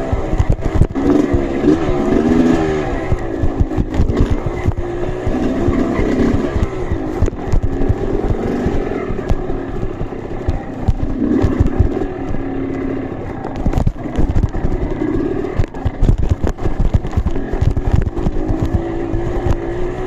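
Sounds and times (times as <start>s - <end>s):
short knocks and thumps: 0.0s - 19.8s
motorcycle engine revving: 0.0s - 20.0s.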